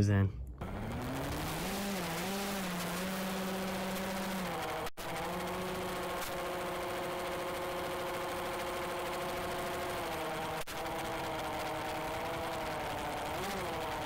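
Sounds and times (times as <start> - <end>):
model plane motor and propeller: 0.6 - 14.0.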